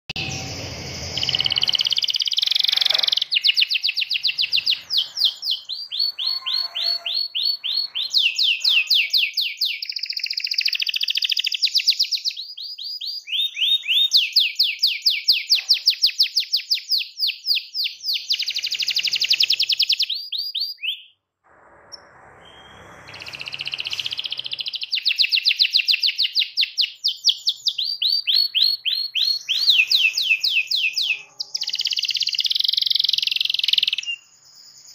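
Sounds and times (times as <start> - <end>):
canary singing trills: 0.1 - 21.2, 21.9 - 34.9.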